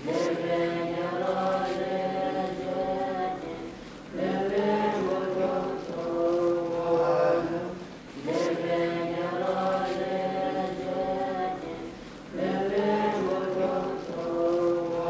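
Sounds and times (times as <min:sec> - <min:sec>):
sung chant with held notes: 0:00.0 - 0:15.0.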